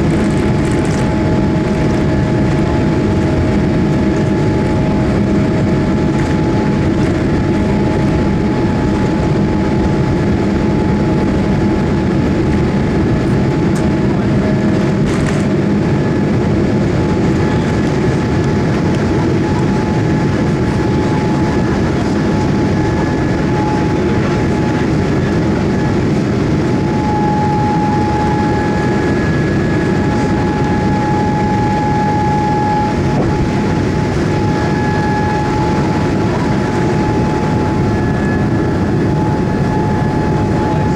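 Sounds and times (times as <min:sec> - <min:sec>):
jet engine cabin rumble: 0:00.0 - 0:40.9
engine whining tones: 0:00.4 - 0:40.9.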